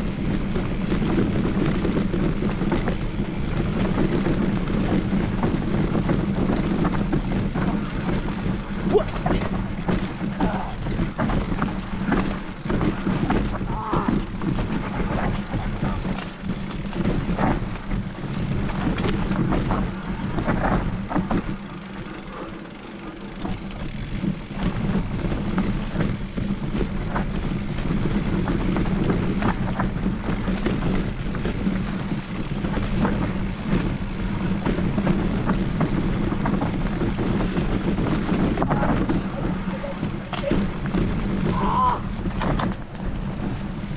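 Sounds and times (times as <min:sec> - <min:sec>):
bike rattling over bumps: 0:00.0 - 0:43.9
bike tyres on trail: 0:00.0 - 0:43.9
wind rumble on microphone: 0:00.0 - 0:43.9.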